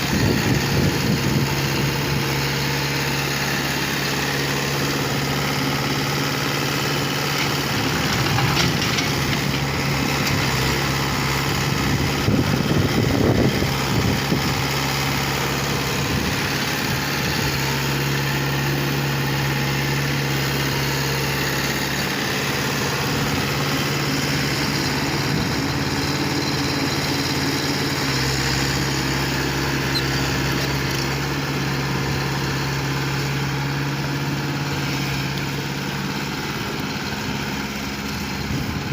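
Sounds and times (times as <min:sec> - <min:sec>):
heavy machine engine idling: 0:00.0 - 0:38.9.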